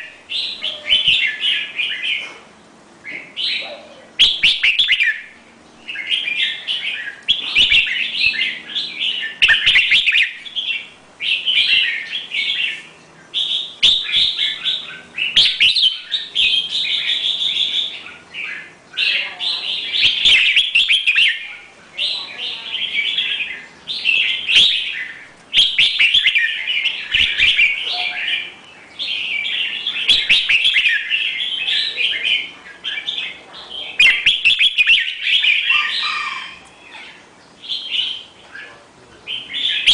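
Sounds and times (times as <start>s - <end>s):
songbird warbling: 3.0s - 39.9s.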